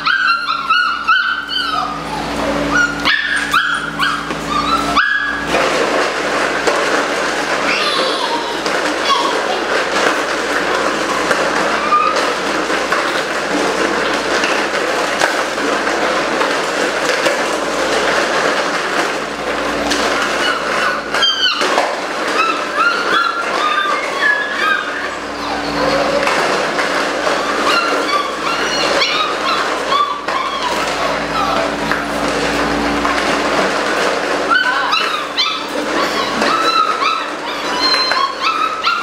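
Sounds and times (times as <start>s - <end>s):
puppies yelping and whining: 0.0s - 39.0s.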